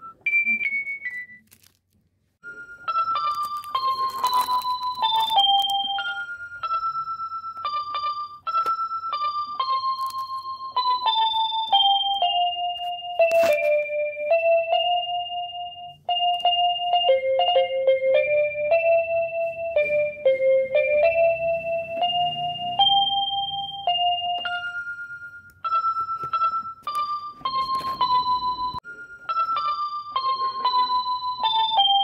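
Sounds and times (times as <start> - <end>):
electric piano melody with tremolo: 2.5 - 32.0.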